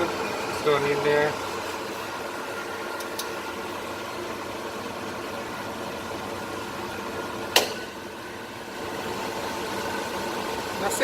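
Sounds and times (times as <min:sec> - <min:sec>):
steady hum with held tones: 0:00.0 - 0:11.0.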